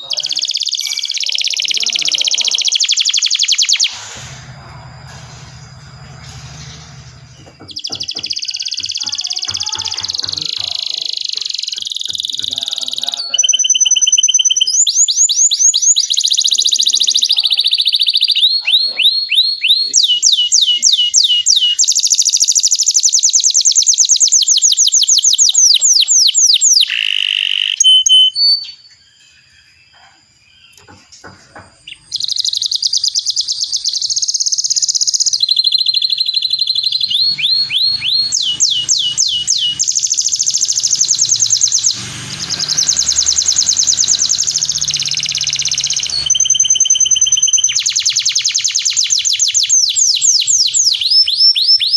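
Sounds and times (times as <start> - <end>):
canary singing rolling trills: 0.0 - 51.9.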